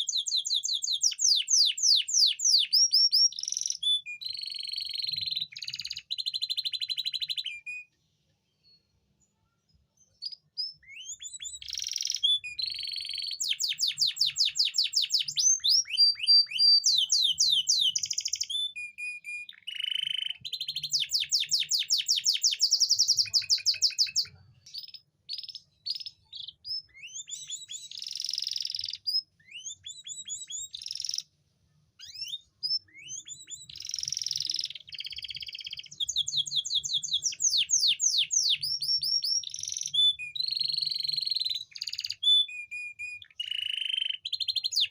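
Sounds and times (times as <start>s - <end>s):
canary singing trills: 0.0s - 7.9s, 9.7s - 44.9s.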